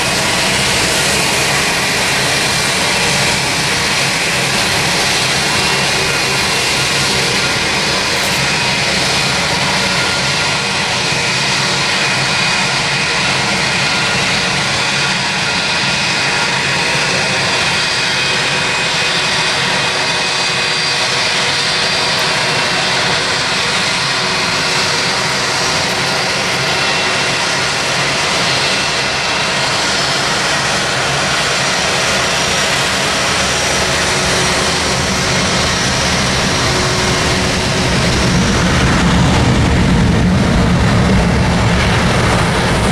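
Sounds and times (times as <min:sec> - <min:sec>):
jet engines taxiing: 0:00.0 - 0:42.9.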